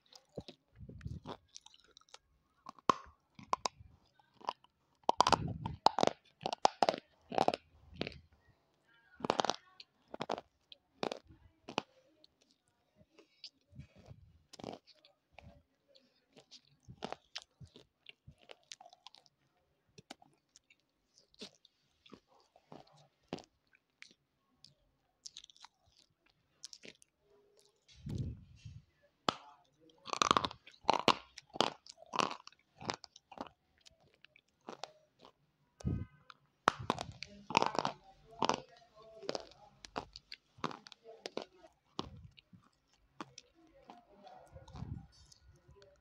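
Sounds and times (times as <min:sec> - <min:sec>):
crunchy food being chewed: 0:00.0 - 0:46.0.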